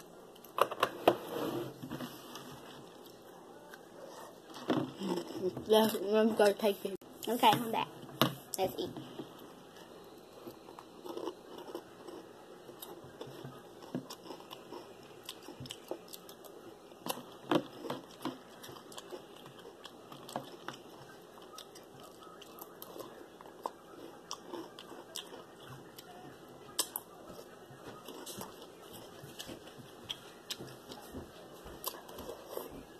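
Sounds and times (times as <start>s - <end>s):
person chewing cereal: 1.9s - 5.9s, 9.0s - 32.9s.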